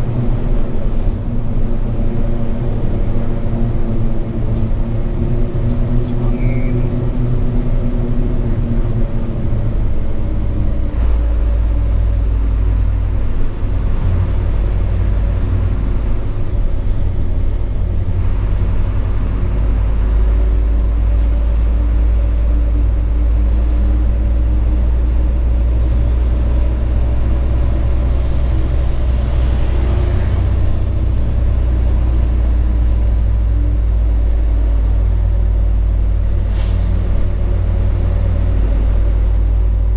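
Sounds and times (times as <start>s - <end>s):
low road rumble: 0.0s - 39.9s
truck diesel engine running: 0.0s - 39.9s.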